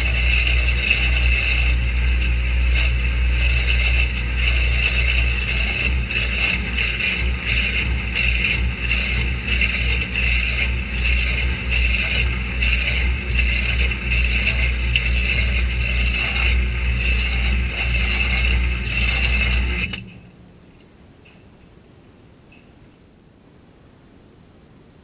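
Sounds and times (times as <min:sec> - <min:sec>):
washer motor hum pulsing: 0:00.0 - 0:20.6.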